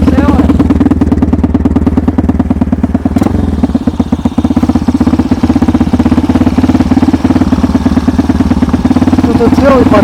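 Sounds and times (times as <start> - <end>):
snowmobile engine idling: 0.0 - 10.0.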